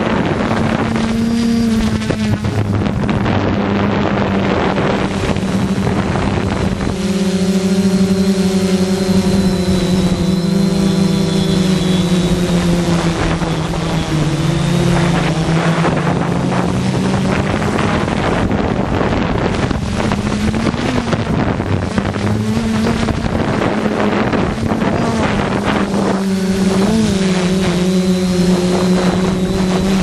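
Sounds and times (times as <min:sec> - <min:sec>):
drone propellers humming: 0:00.0 - 0:30.0
wind buffeting microphone: 0:00.0 - 0:30.0.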